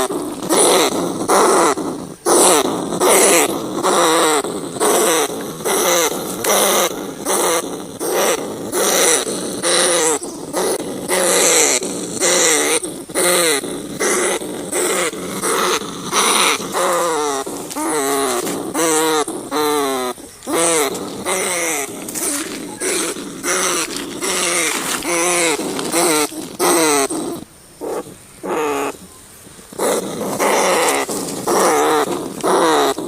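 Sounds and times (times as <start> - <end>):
rats squealing: 0.0 - 33.0.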